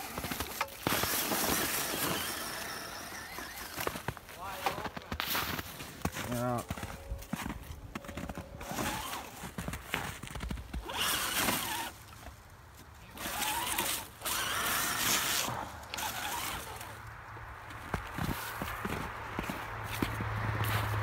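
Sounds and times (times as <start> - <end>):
footsteps crunching through snow: 0.0 - 16.9, 17.6 - 21.0.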